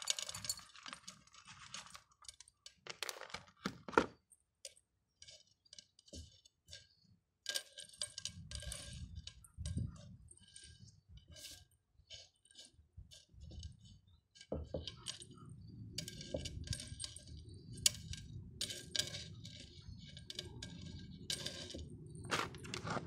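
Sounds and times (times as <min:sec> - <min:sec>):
potting mix crackling: 0:00.0 - 0:23.0.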